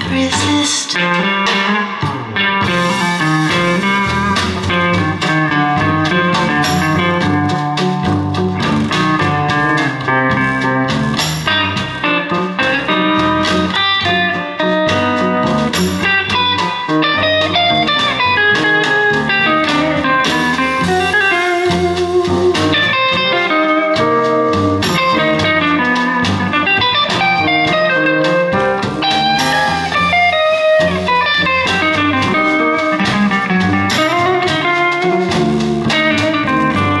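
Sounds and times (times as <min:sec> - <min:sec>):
blues guitar music: 0:00.0 - 0:37.0.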